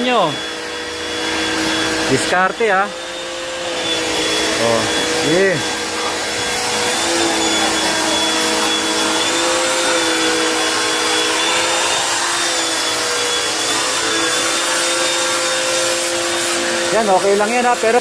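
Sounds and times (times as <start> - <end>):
pressure washer running: 0.0 - 18.0.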